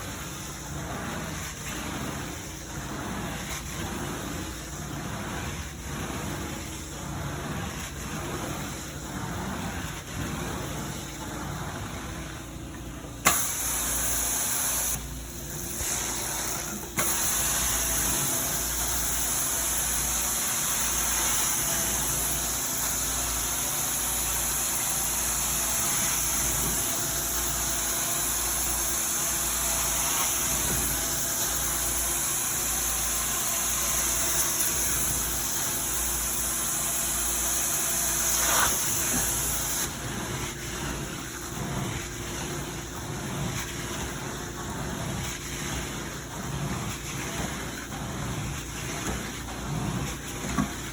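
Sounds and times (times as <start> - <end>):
carpet cleaning machine motor hum: 0.0 - 50.9.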